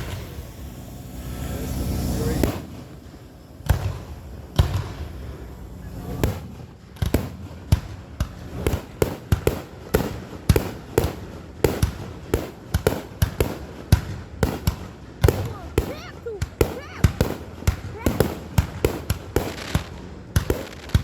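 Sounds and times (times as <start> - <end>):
sharp bangs or pops: 2.4 - 5.4, 6.2 - 21.0.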